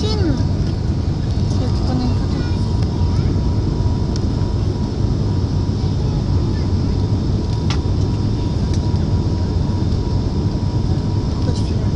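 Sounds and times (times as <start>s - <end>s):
airliner engines droning in cabin: 0.0s - 11.9s
thin steady whine: 0.0s - 11.9s.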